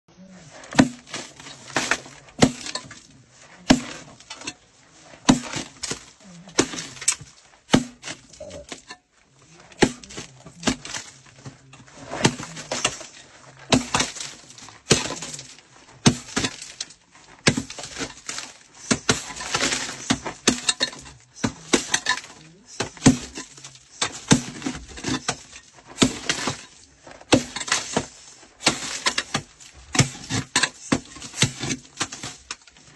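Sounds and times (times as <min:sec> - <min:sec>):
coal lumps clattering down: 0:00.2 - 0:32.9
pick striking coal: 0:00.2 - 0:32.9.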